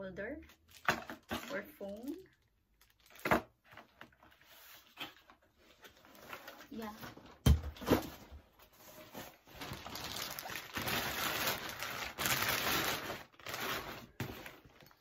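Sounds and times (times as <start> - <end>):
plastic wrapping rustling: 0.5 - 15.0.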